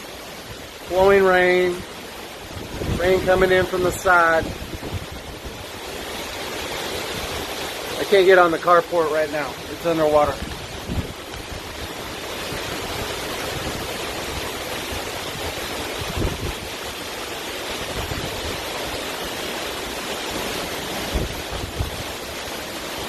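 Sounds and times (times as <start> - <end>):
driving rain: 0.0 - 23.0
storm wind: 0.0 - 23.0.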